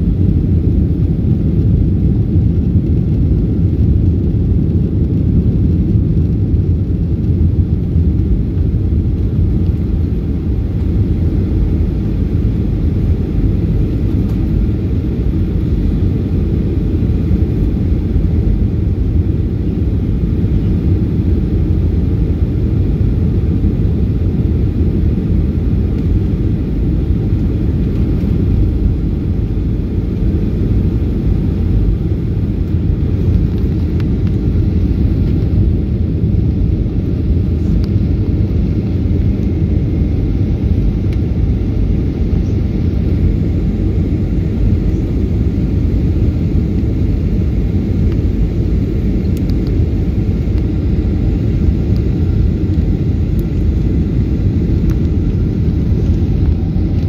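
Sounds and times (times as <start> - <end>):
airplane engine drone: 0.0 - 57.0.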